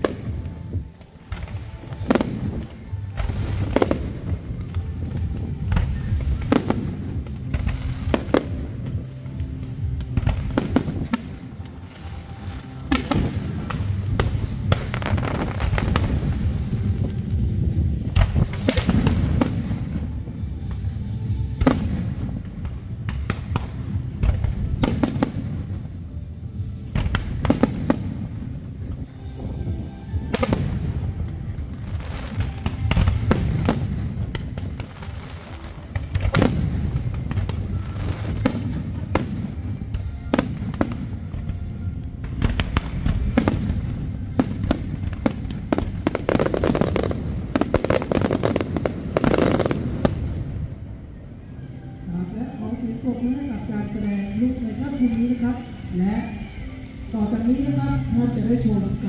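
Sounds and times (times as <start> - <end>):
continuous low rumble: 0.0 - 59.0
fireworks bursting: 0.0 - 59.0.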